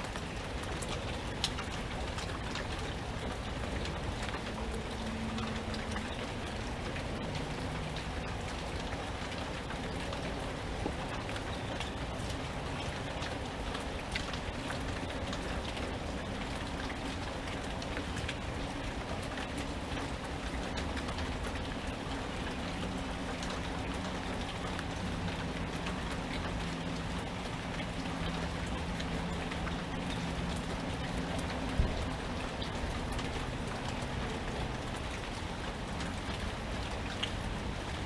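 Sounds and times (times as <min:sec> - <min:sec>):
rain drops falling: 0:00.0 - 0:38.0.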